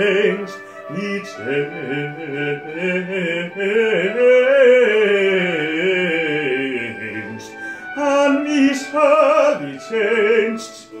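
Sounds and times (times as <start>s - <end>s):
man singing bass with vibrato: 0.0s - 11.0s
musical accompaniment: 0.0s - 11.0s.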